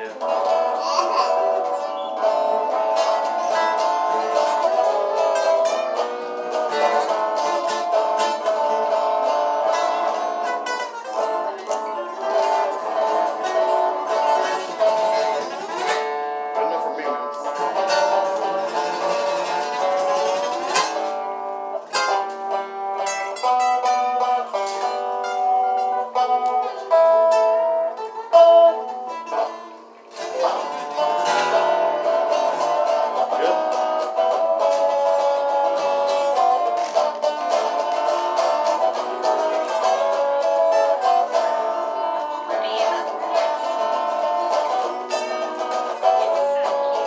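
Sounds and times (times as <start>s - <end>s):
picked string melody: 0.0s - 47.0s
plucked string rhythm accompaniment: 0.0s - 47.0s.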